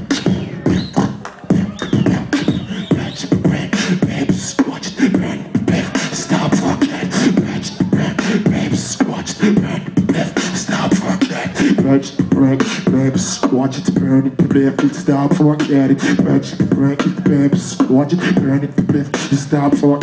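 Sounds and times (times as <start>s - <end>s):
person beatboxing: 0.0s - 20.0s.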